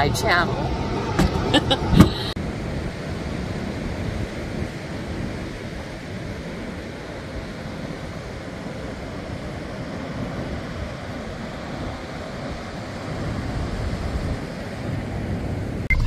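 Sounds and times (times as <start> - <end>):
ocean surf washing onto beach: 0.0 - 15.9
wind rumbling on microphone: 0.0 - 16.0.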